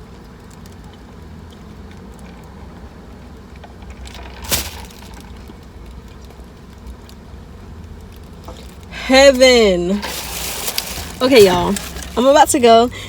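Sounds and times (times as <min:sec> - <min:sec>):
car cabin hum: 0:00.0 - 0:13.0.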